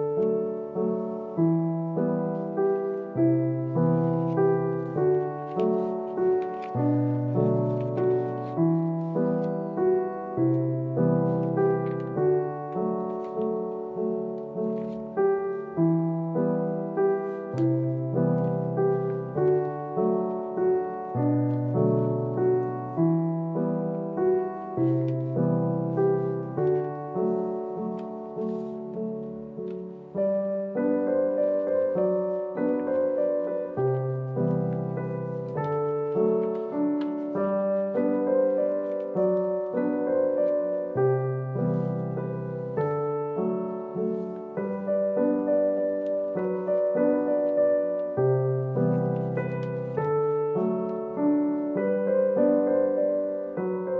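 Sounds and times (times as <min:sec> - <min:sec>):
gentle piano melody: 0:00.0 - 0:53.9.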